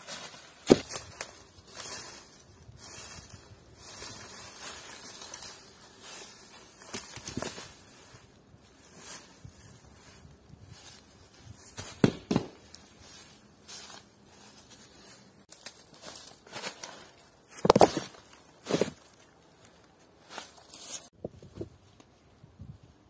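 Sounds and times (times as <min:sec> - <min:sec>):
crunches and cracks on forest floor: 0:00.0 - 0:22.6.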